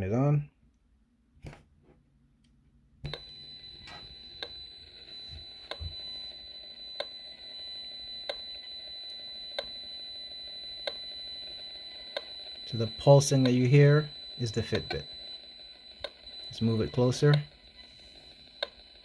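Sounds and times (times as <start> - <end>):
sharp meter clicks: 3.0 - 9.8, 10.5 - 19.0
rf meter hiss with high tone: 3.0 - 19.0.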